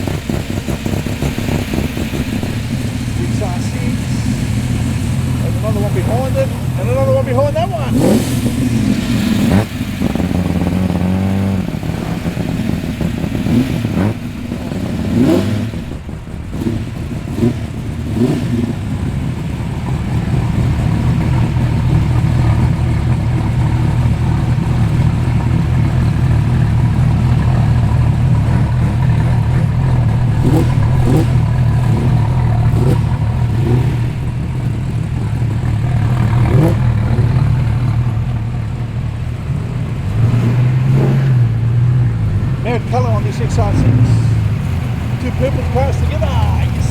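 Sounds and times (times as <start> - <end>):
car engines rumbling: 0.0 - 46.9
engine revving: 0.0 - 46.9.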